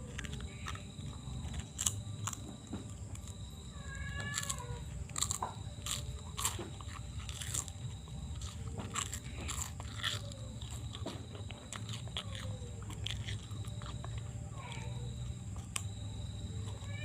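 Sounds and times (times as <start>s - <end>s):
crackling and squelching: 0.0s - 17.0s
steady low hum: 0.0s - 17.0s.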